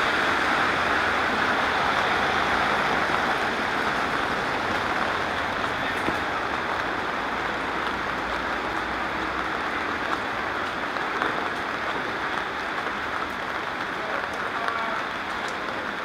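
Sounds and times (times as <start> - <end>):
rain on a street: 0.0 - 16.0
ticks of raindrops: 0.0 - 16.0.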